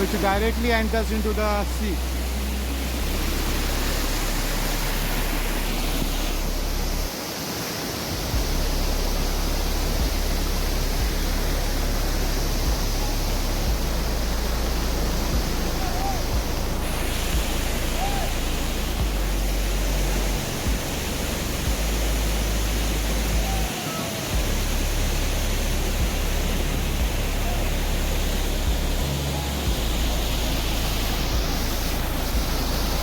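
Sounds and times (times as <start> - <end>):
low rumble: 0.0 - 7.1, 8.2 - 23.7, 24.4 - 33.0
waterfall rushing: 0.0 - 33.0.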